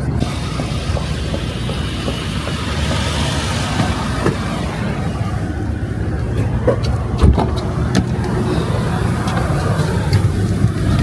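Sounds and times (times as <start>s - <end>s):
car passing: 0.0s - 11.0s
road traffic rumble: 0.0s - 11.0s.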